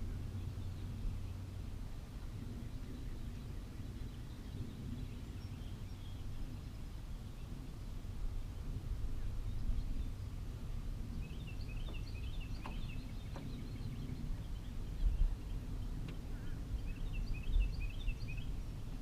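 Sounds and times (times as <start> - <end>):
songbird chirping: 0.0 - 19.0
steady low rumble: 0.0 - 19.0.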